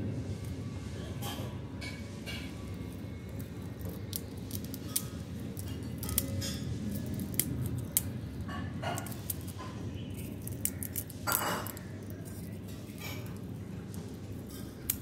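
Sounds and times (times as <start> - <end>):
dry egg case crackling: 2.6 - 15.0.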